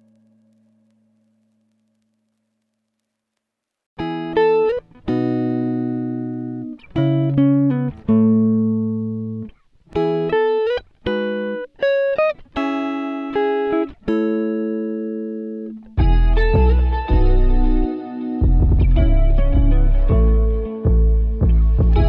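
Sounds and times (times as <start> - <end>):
plucked guitar music: 4.0 - 22.0.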